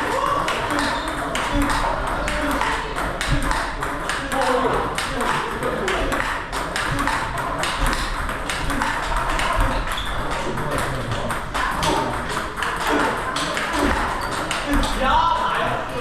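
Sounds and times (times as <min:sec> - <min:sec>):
table tennis ball clicks: 0:00.0 - 0:15.0.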